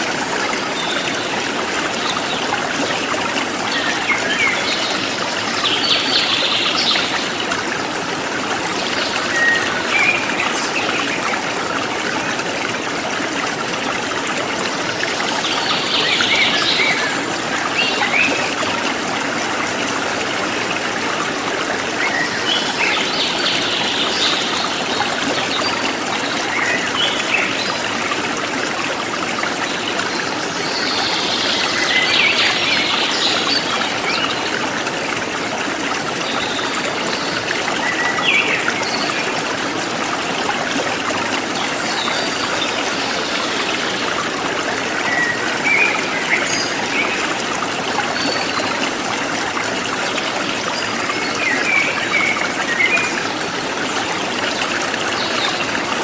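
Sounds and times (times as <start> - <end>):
forest stream trickling: 0.0 - 56.0.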